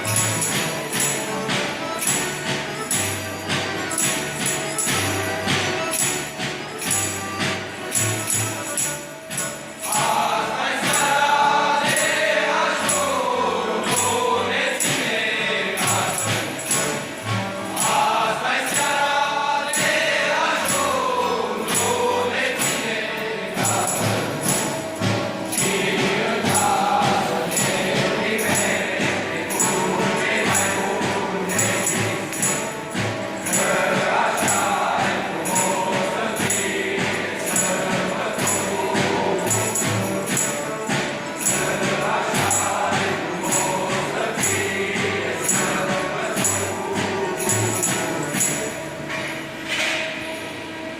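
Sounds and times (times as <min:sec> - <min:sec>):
group singing in unison: 0:00.0 - 0:50.9
jingles shaken in a beat: 0:00.0 - 0:50.9.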